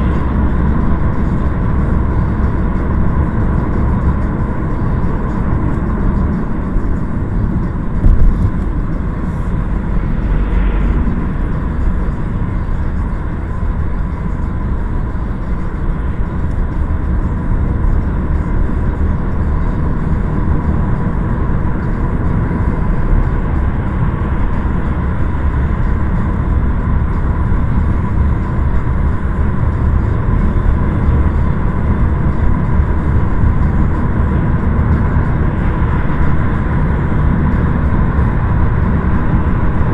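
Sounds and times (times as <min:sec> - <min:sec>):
low rumble of motor vehicles: 0:00.0 - 0:39.9
road noise: 0:00.0 - 0:39.9.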